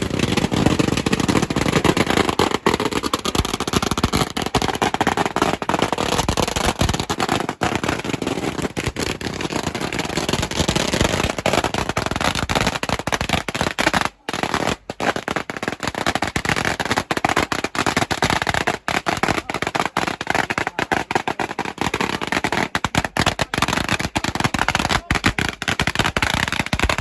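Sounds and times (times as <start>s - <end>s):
firecrackers crackling: 0.0s - 27.0s.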